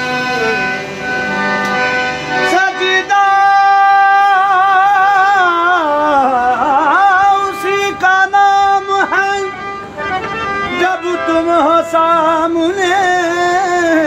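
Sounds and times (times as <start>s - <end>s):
harmonium: 0.0s - 14.0s.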